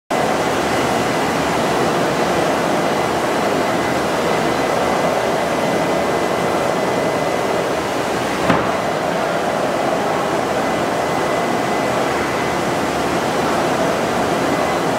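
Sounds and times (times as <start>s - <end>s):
faint high machine whine: 0.1s - 14.9s
industrial machinery rush: 0.2s - 14.9s.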